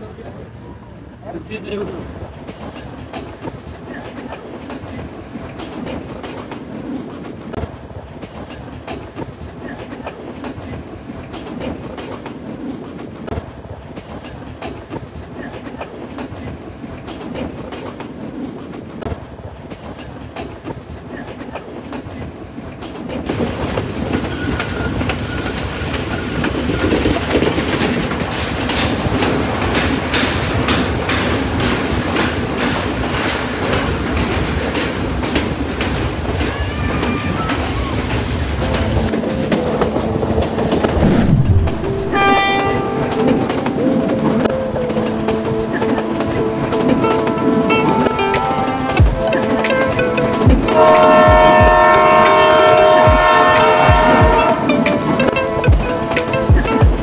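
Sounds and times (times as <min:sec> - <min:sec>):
train rumbling: 0:00.0 - 0:57.0
wheels clicking over rail joints: 0:01.4 - 0:41.0, 0:42.4 - 0:57.0.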